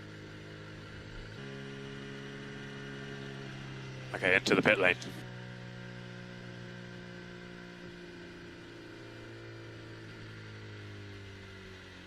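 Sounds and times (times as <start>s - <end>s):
race car engine at low revs: 0.0s - 12.0s.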